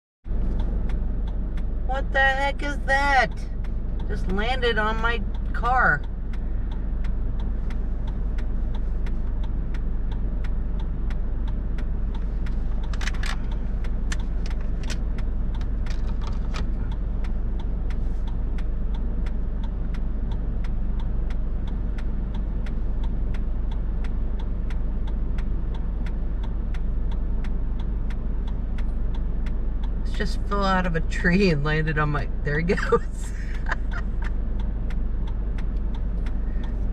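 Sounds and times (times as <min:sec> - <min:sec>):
car engine idling: 0:00.3 - 0:36.9
even ticking: 0:00.3 - 0:36.9.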